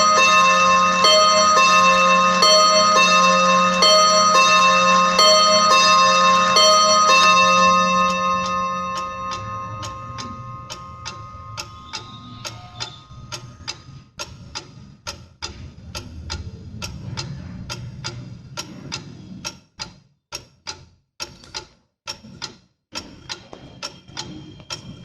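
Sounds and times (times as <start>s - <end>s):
pendulum clock ticking: 0.0s - 25.0s.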